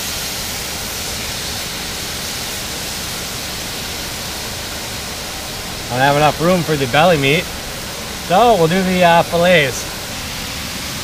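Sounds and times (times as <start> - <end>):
fish sizzling in a frying pan: 0.0 - 8.8.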